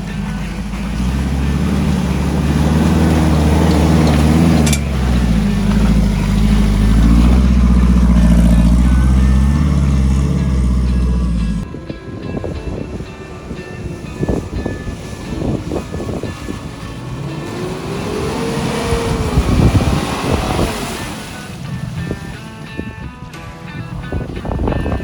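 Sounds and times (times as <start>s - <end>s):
engine revving: 0.0s - 11.7s, 13.8s - 23.0s.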